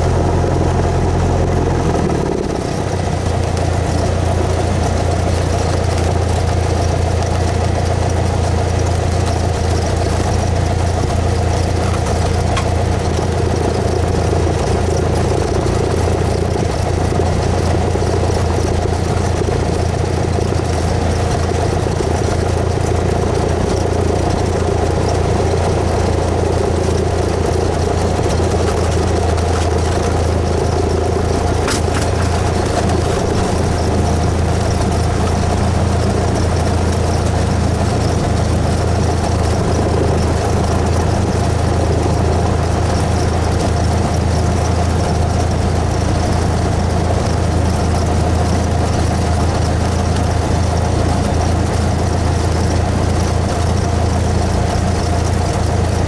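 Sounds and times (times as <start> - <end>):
airplane engine and propeller droning: 0.0 - 56.0.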